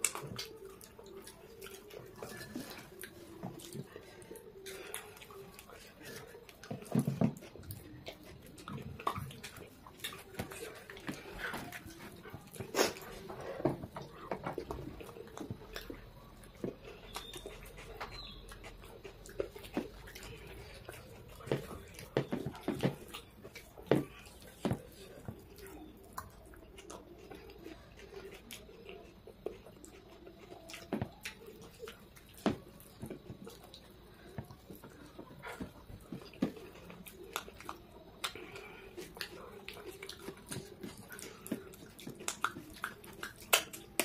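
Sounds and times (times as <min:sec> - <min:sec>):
wet chewing and mouth clicks: 0:00.0 - 0:44.0.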